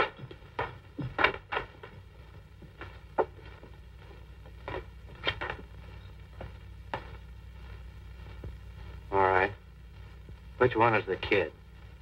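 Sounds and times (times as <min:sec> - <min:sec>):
footsteps on floor: 0:00.0 - 0:10.5
low soundtrack hum: 0:00.0 - 0:12.0.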